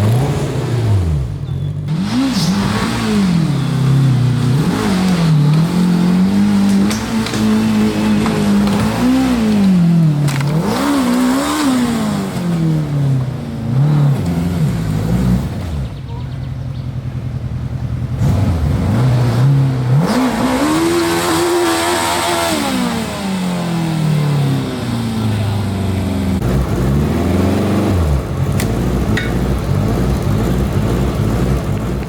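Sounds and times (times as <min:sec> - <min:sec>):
vehicle engine revving: 0:00.0 - 0:32.0.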